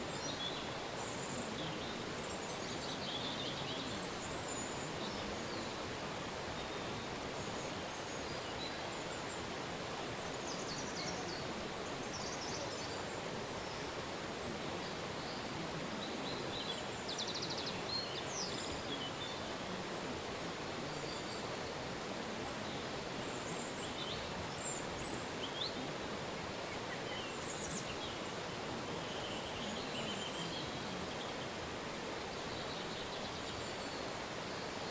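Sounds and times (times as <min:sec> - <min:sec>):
river flowing: 0:00.0 - 0:34.9.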